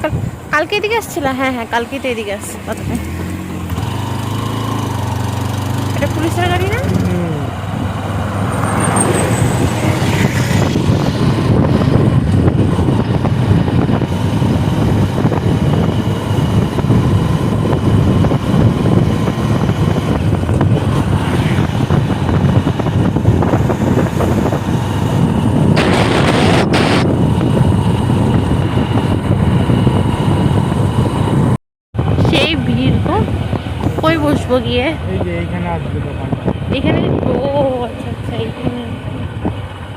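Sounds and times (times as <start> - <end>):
motorcycle running: 0.0 - 39.9
wind rushing over microphone: 0.0 - 39.9.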